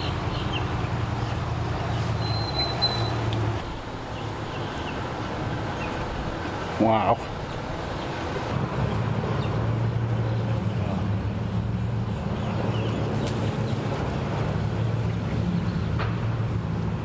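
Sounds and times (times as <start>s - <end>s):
truck engine idling: 0.0s - 16.6s.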